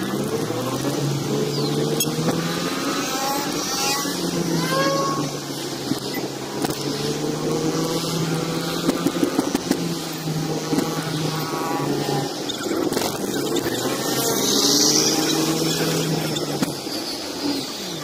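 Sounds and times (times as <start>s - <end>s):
car engine humming: 0.0s - 18.0s
other vehicles: 0.0s - 18.0s
road noise: 0.0s - 18.0s.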